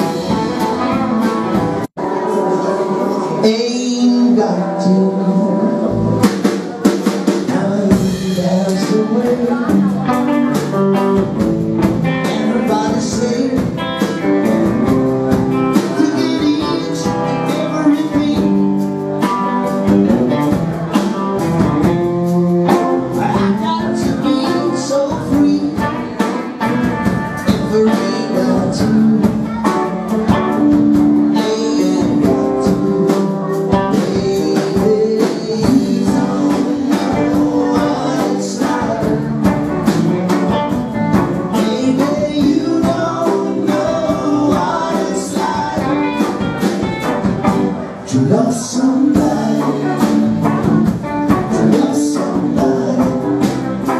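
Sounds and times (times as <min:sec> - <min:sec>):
electric bass: 0:00.0 - 0:06.6, 0:07.5 - 0:53.9
drum kit: 0:00.0 - 0:53.9
electric guitars: 0:00.0 - 0:53.9
man singing: 0:00.0 - 0:53.9.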